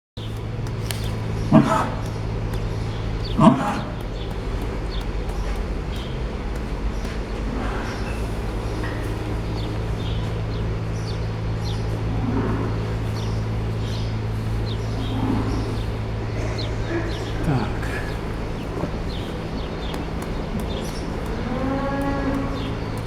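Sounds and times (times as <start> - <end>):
low mechanical hum: 0.2 - 23.0
small birds chirping: 0.2 - 23.0.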